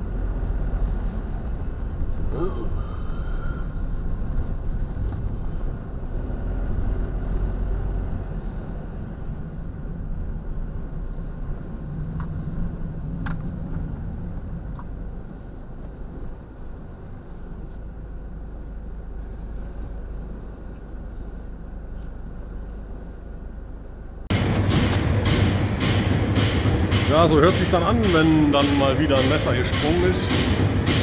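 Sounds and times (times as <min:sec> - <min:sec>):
truck engine and road noise: 0:00.0 - 0:31.0.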